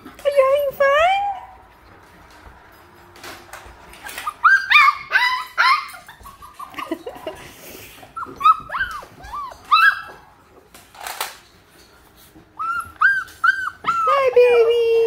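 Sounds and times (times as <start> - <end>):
puppies yipping: 0.0 - 3.0, 3.6 - 10.8, 11.8 - 15.0.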